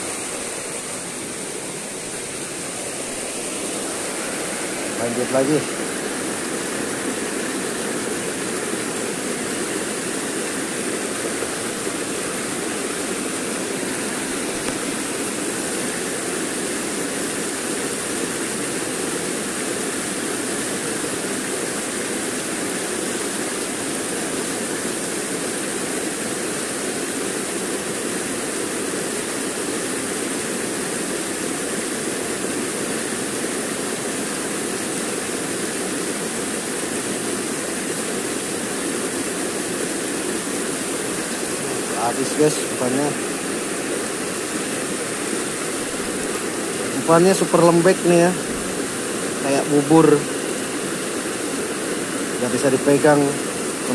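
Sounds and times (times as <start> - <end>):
river water rushing over rocks: 0.0 - 53.9.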